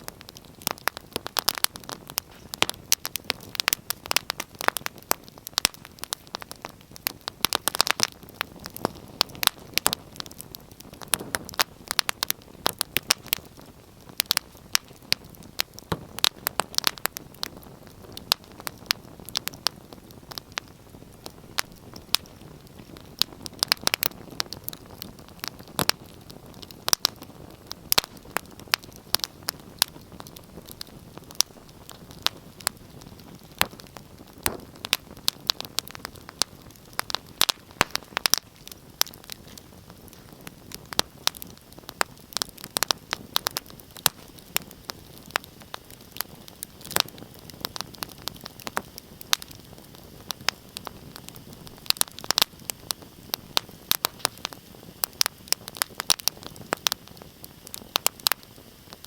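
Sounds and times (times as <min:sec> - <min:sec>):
low hiss: 0:00.0 - 0:59.0
wood fire crackling and popping: 0:00.0 - 0:59.0.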